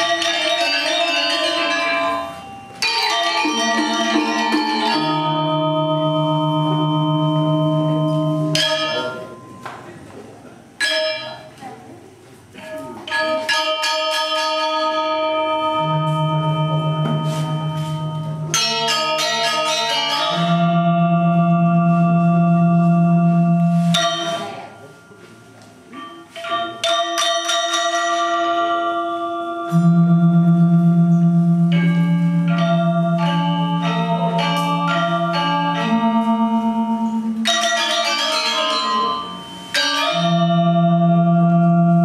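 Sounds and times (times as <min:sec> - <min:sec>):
metallophones struck with mallets: 0:00.0 - 0:10.0, 0:10.7 - 0:11.7, 0:12.5 - 0:42.0.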